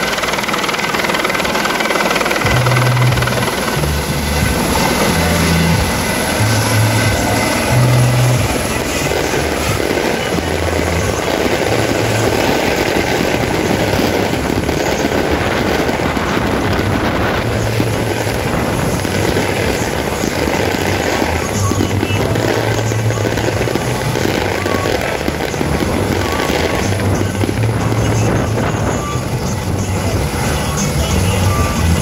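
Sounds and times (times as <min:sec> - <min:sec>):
helicopter rotor and turbine noise: 0:00.0 - 0:32.0.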